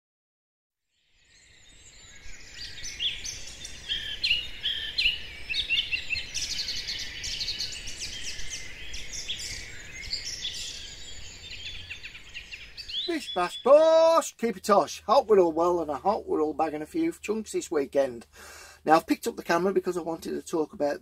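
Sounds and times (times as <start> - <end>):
birds singing and chirping: 1.2 - 21.0.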